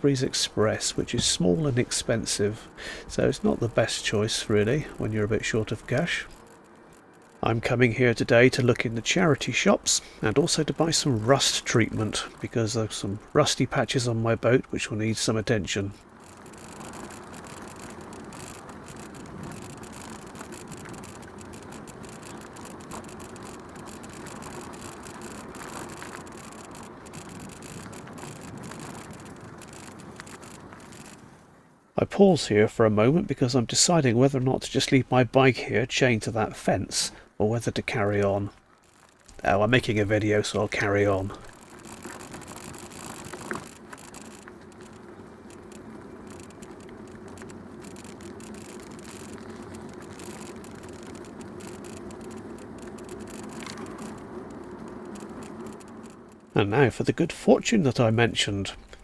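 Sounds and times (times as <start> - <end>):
bicycle tyres rolling on path: 0.0 - 59.0.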